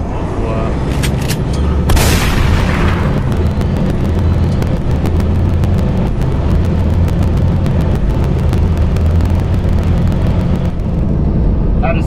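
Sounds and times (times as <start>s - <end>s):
diesel engine drone: 0.0s - 12.0s
road and tyre noise: 0.0s - 12.0s.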